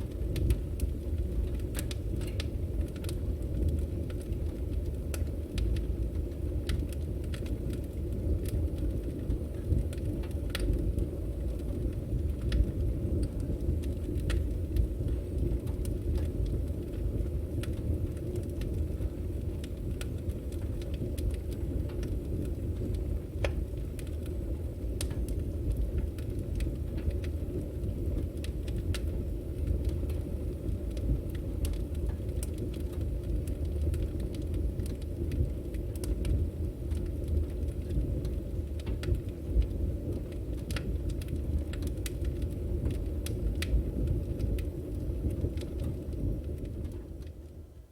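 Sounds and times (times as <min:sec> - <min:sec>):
fire flames rumbling: 0:00.0 - 0:47.9
firewood crackling and popping: 0:00.0 - 0:47.9.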